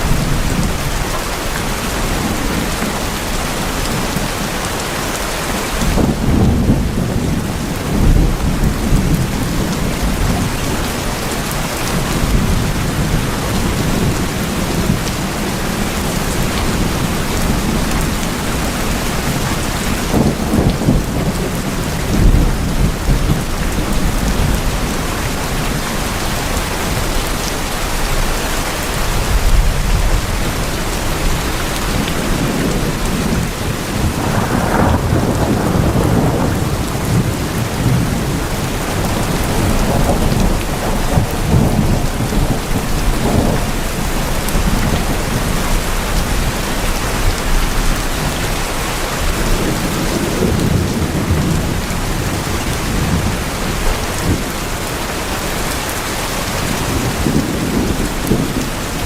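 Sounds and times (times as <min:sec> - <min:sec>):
heavy rain on tin roofs: 0:00.0 - 0:59.0.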